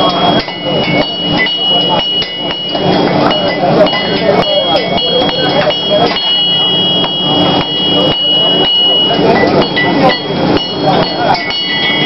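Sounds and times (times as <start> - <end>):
anvil ringing tone: 0.0 - 12.0
murmur of voices: 0.0 - 12.0.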